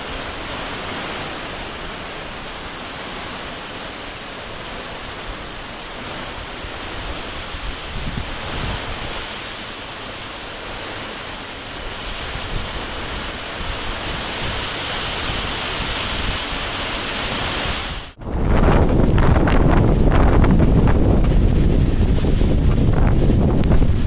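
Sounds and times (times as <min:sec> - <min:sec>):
running water rushing: 0:00.0 - 0:24.0
wind buffeting microphone: 0:00.0 - 0:24.0.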